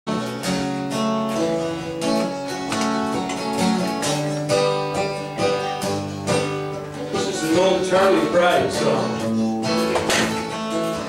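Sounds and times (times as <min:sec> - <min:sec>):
acoustic guitar strumming: 0:00.1 - 0:11.0.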